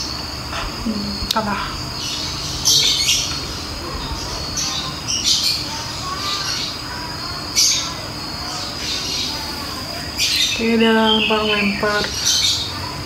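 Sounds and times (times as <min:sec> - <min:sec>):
short harsh calls: 0:00.0 - 0:12.8
steady high-pitched drone: 0:00.0 - 0:13.0.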